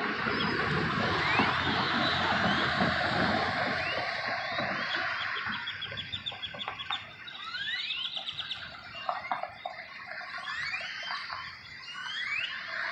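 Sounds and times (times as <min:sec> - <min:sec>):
small birds calling: 0:00.1 - 0:12.9.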